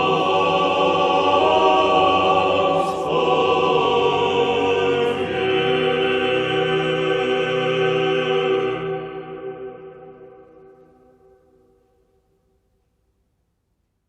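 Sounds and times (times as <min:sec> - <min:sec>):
choir singing sustained chords: 0:00.0 - 0:11.8.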